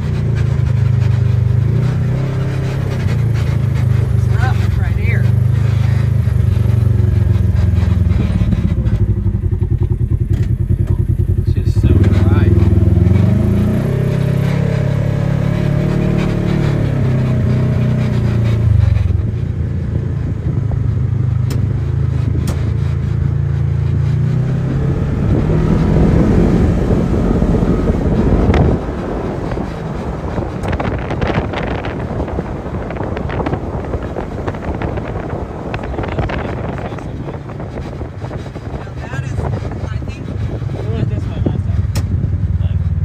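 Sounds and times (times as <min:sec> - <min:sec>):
utility vehicle engine running: 0:00.0 - 0:43.0
wind on microphone: 0:00.0 - 0:43.0.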